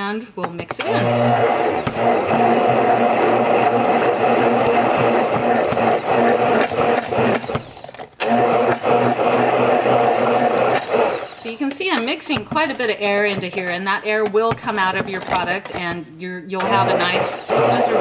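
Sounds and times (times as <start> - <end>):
stick blender whipping cream: 0.6 - 16.0, 16.6 - 18.0.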